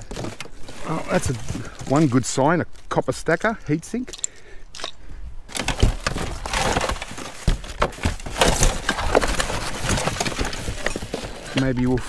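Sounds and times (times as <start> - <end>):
hard objects clattering: 0.0 - 2.4, 4.1 - 12.0.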